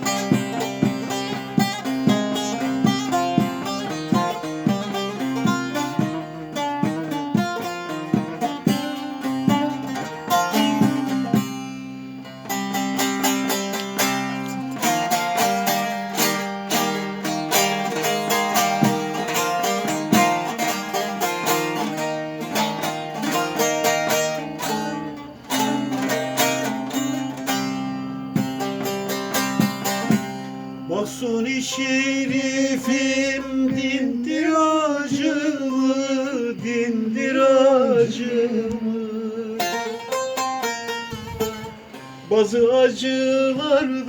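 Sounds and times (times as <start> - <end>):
plucked string instrument folk tune: 0.0 - 44.0.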